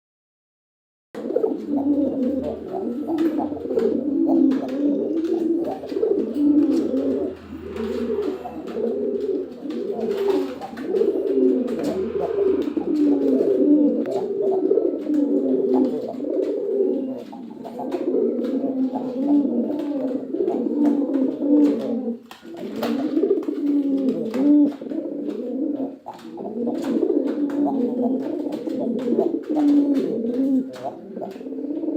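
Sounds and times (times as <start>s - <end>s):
pigeons cooing: 1.2s - 31.9s.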